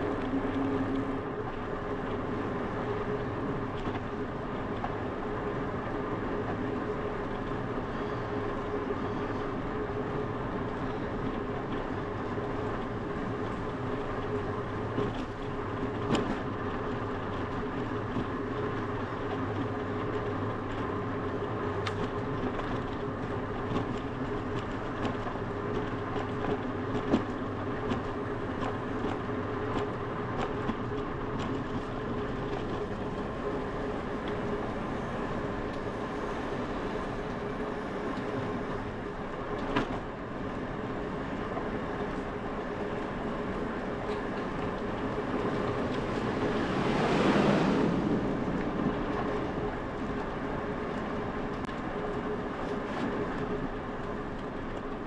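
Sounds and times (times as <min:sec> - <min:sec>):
bicycle rolling on asphalt: 0:00.0 - 0:55.0.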